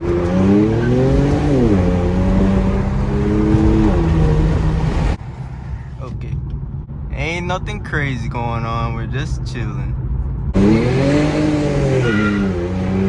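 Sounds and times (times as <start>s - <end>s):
car exhaust accelerating: 0.0s - 13.0s.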